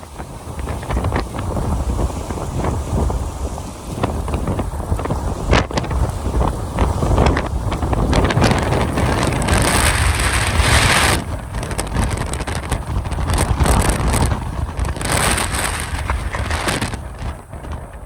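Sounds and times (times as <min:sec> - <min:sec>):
gusty wind buffeting microphone: 0:00.0 - 0:18.0.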